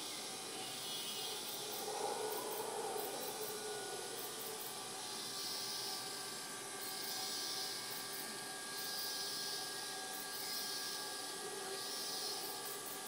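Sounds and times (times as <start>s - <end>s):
shrill insect hiss: 0.0s - 13.0s.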